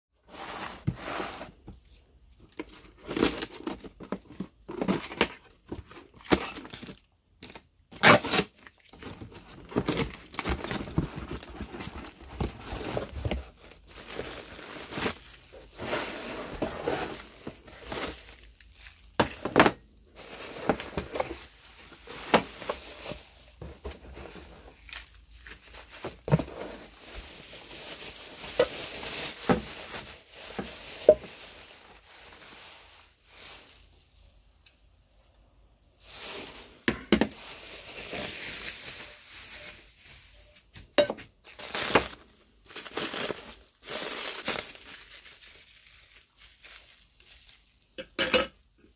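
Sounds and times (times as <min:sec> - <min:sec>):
plastic wrapping crinkling: 0:02.4 - 0:35.0, 0:36.0 - 0:40.7, 0:41.3 - 0:48.0.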